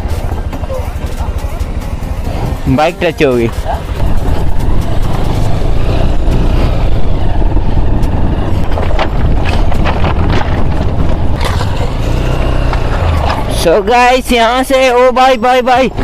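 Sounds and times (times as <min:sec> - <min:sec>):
wind on microphone: 0:00.0 - 0:13.5
motorcycle knocking and rattling: 0:00.0 - 0:14.8
motorcycle running at low speed: 0:00.0 - 0:16.0.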